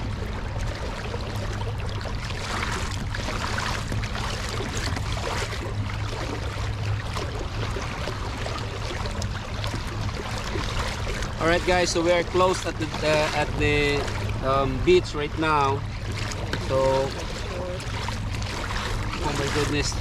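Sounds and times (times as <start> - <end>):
water splashing along hull: 0.0 - 20.0.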